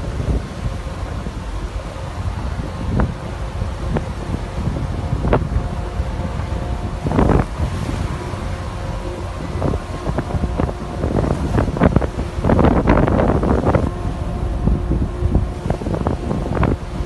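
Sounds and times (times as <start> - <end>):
faint engine hum: 0.0 - 17.0
rough churning sea: 0.0 - 17.0
wind buffeting microphone: 0.0 - 17.0.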